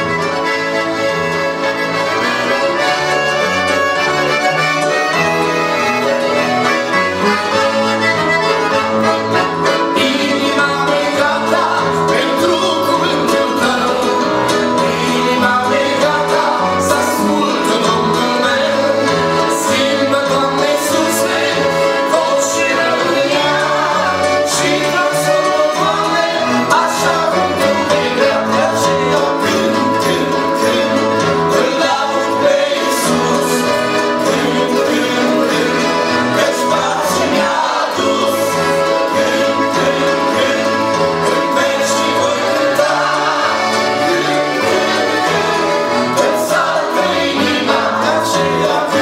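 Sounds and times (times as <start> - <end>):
accordions: 0.0 - 49.0
electronic keyboard: 0.0 - 49.0
men singing together: 7.5 - 49.0.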